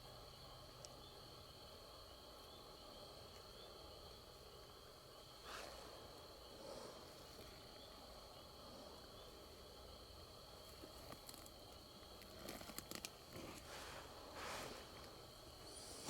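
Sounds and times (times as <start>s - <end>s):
insects trilling and chirping: 0.0s - 16.0s.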